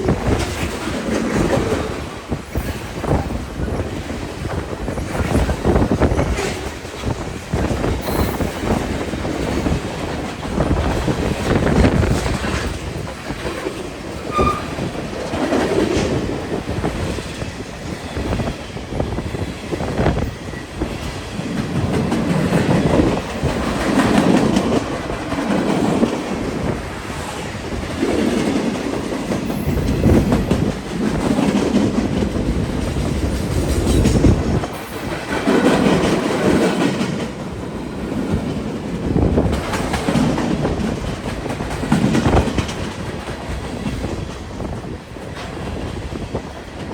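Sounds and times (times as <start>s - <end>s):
train wheels clattering over rail joints: 0.0s - 46.9s.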